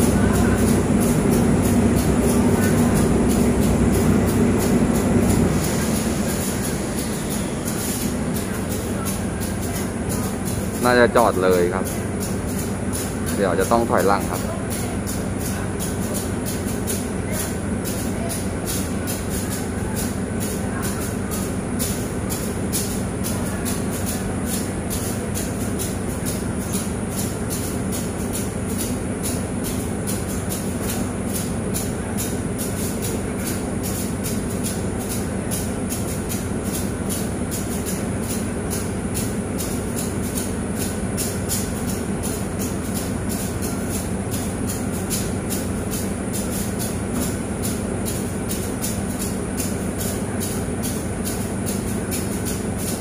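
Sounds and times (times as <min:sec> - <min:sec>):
compressed air pulsing rhythmically: 0:00.0 - 0:53.0
idling locomotive hum: 0:00.0 - 0:53.0.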